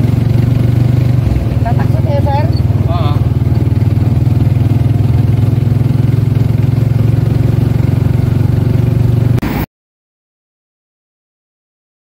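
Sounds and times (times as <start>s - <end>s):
motorcycle engine droning: 0.0s - 9.6s.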